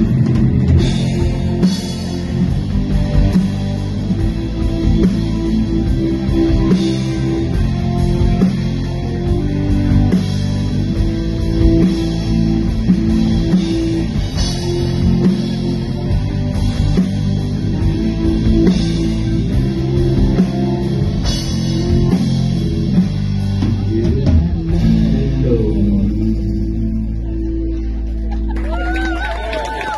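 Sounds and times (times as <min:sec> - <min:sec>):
drum kit: 0:00.0 - 0:27.3
bass guitar: 0:00.0 - 0:29.9
electric guitar: 0:00.0 - 0:29.9.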